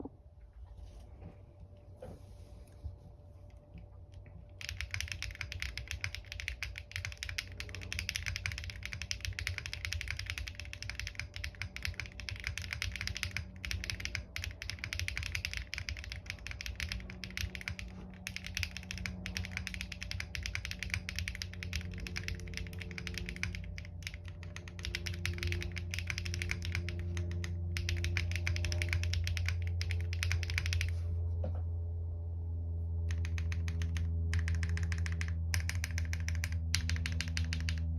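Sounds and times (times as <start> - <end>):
fast typing on mechanical keyboard: 4.5 - 31.0, 33.1 - 37.9.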